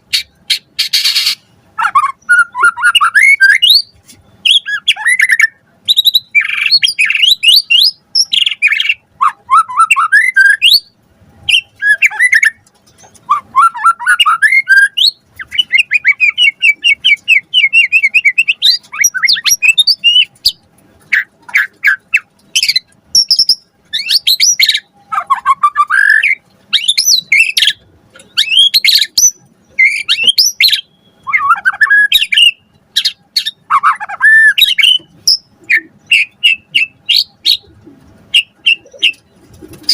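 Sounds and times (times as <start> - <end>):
bird singing whistled phrases: 0.5 - 12.6, 13.3 - 20.3, 21.1 - 37.6, 38.4 - 39.2.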